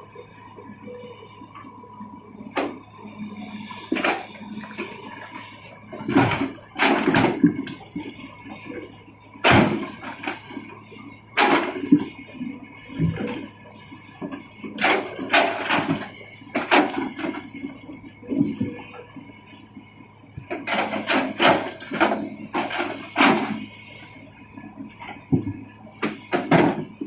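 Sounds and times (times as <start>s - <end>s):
excavator engine humming: 0.0s - 27.0s.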